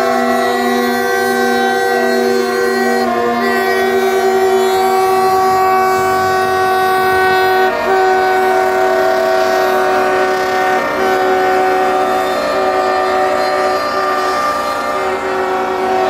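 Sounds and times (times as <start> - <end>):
diesel engines rumbling: 0.0 - 16.0
locomotive air horns: 0.0 - 16.0.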